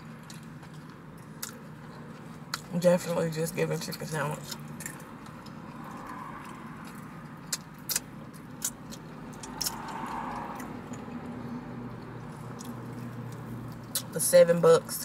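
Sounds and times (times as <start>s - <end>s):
crunchy chewing: 0.0s - 2.7s, 4.4s - 14.1s.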